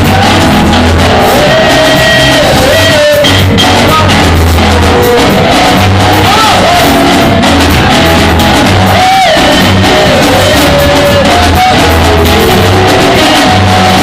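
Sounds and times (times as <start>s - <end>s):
bass line: 0.0s - 14.0s
church band playing: 0.0s - 14.0s
people singing: 0.0s - 14.0s.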